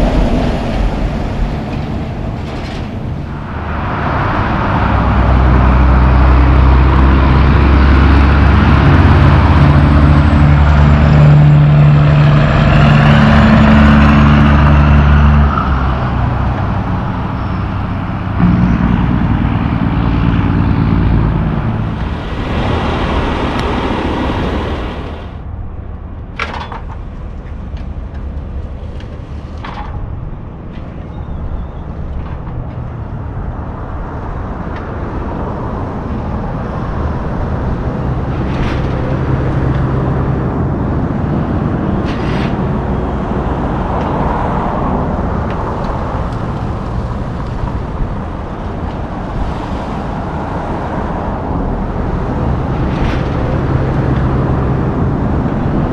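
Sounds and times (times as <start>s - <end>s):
diesel truck engine running: 0.0s - 25.1s, 27.0s - 55.9s
road traffic passing: 0.0s - 55.9s.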